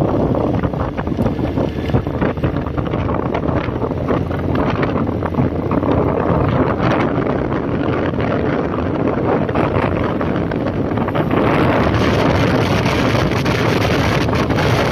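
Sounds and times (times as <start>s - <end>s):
motorcycle and road noise rush: 0.0s - 14.9s
wind buffeting microphone: 0.0s - 14.9s.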